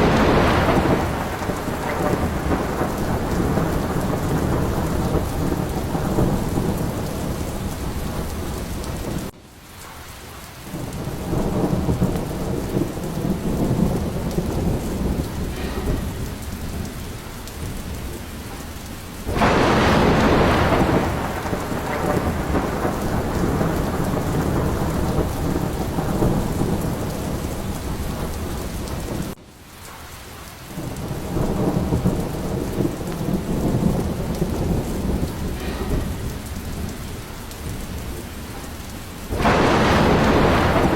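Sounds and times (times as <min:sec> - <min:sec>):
loud thunderclap: 0:00.0 - 0:09.4, 0:10.6 - 0:29.4, 0:30.7 - 0:40.9
rumbling thunder: 0:00.0 - 0:09.4, 0:10.6 - 0:30.0, 0:30.7 - 0:40.9
heavy rain: 0:00.0 - 0:40.9.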